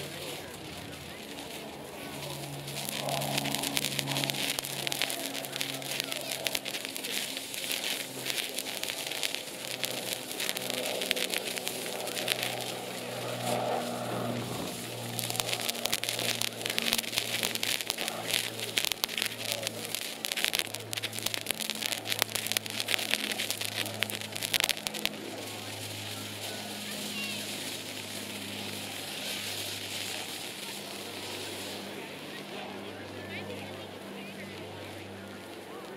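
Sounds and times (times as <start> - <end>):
crackling firework fountain: 0.0 - 35.9.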